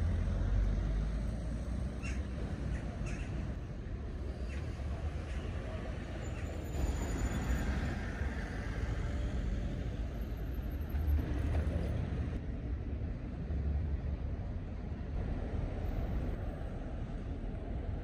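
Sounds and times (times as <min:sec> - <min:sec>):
cars passing: 0:00.0 - 0:18.0
road traffic rumble: 0:00.0 - 0:18.0.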